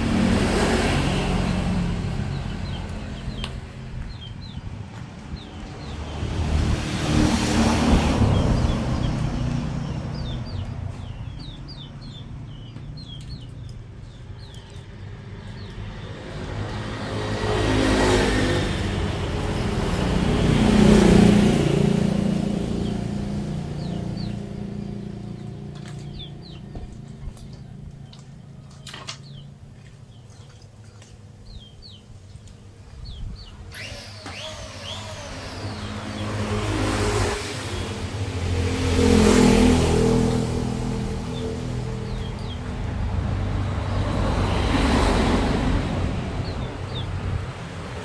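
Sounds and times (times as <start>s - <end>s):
vehicles passing by: 0.0s - 48.0s
small birds chirping: 0.6s - 48.0s.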